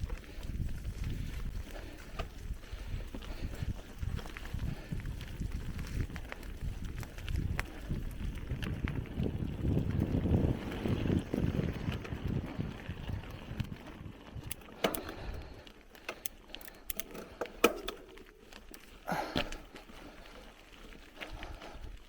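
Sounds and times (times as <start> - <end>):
bicycle tyres rumbling: 0.0 - 22.0
bike clicks and rattles: 0.0 - 22.0
wind: 0.0 - 22.0.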